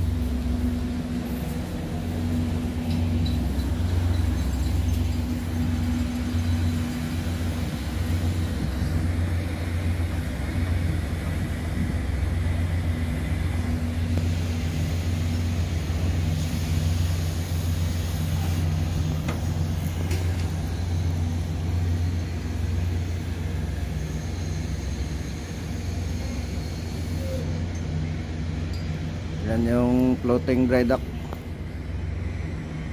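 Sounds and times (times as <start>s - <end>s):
ship engines droning: 0.0s - 32.9s.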